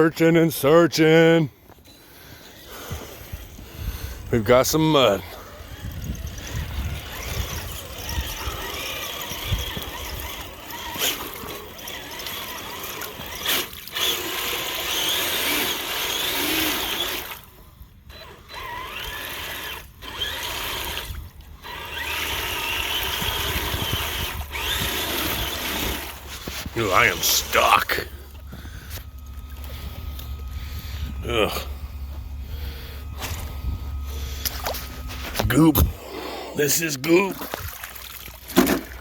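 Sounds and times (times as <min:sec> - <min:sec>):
electric motor whining: 0:01.7 - 0:36.8
tires churning through mud: 0:02.1 - 0:39.0.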